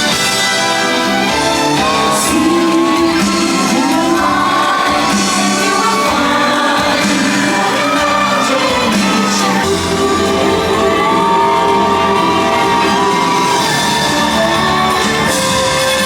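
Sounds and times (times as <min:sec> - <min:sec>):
orchestral music with brass: 0:00.0 - 0:16.0
crowd whoops: 0:01.4 - 0:16.0
high singing voice: 0:01.6 - 0:16.0.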